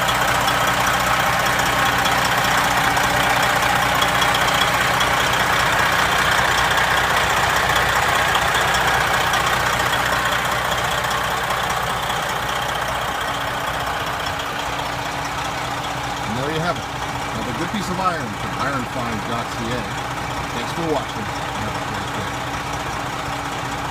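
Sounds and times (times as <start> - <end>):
diesel truck engine idling: 0.0 - 23.9.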